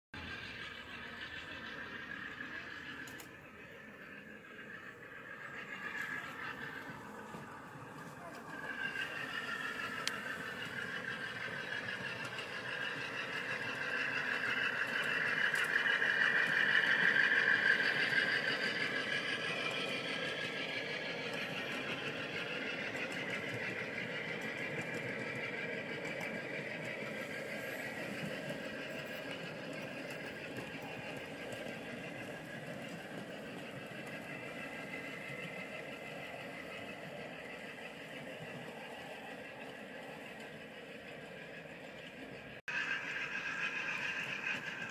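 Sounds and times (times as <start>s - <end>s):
cars rolling on track: 0.1s - 44.9s
model locomotive diesel engine sound: 0.1s - 44.9s.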